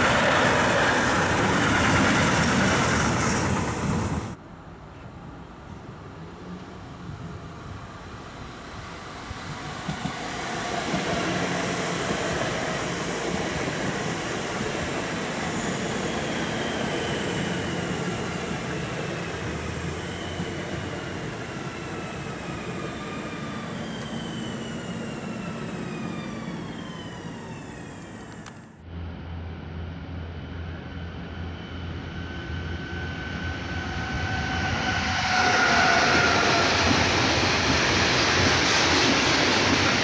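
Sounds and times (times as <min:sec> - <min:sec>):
train rumbling past on rails: 0:00.0 - 0:40.0.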